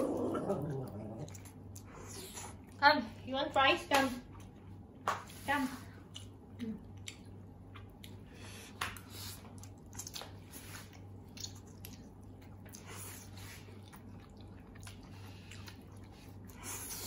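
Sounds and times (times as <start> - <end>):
chewing: 0.0 - 2.8, 6.0 - 17.0
steady low hum: 0.0 - 17.0.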